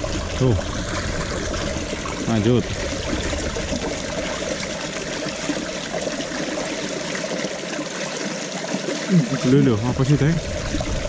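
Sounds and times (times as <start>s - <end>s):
water trickling over rocks: 0.0s - 11.0s.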